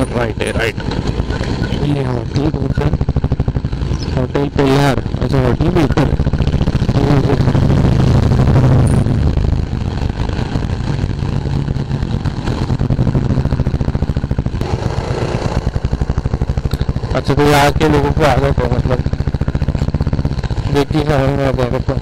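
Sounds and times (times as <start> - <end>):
motorcycle engine thumping: 0.0 - 1.8, 5.0 - 21.0.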